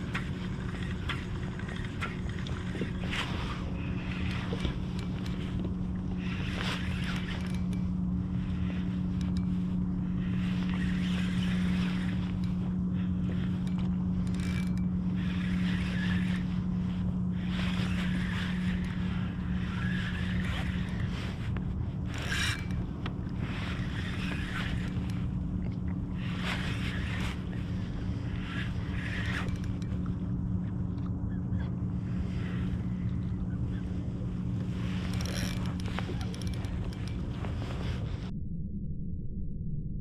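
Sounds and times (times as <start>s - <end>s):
fishing reel gears whirring: 0.0s - 38.3s
steady low hum: 0.0s - 40.0s.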